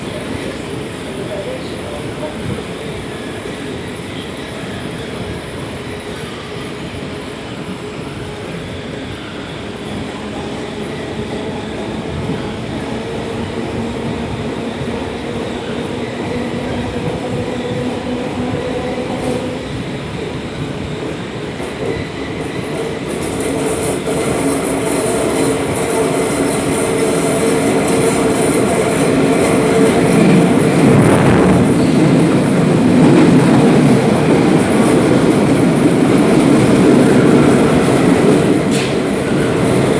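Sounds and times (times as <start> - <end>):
wheels rumbling on rails: 0.0 - 39.9.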